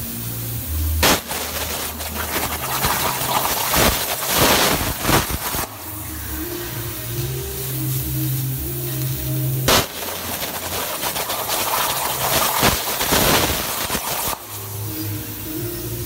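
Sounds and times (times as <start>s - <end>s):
plasma arc crack: 0.0s - 15.4s
plasma torch hissing: 0.0s - 16.0s.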